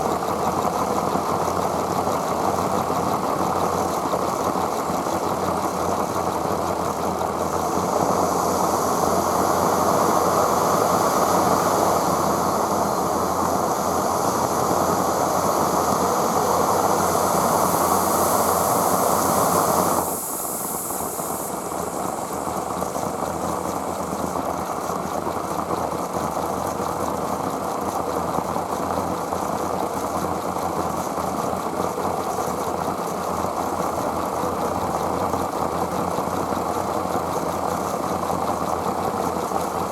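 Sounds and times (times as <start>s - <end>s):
steam hissing: 0.0s - 39.9s.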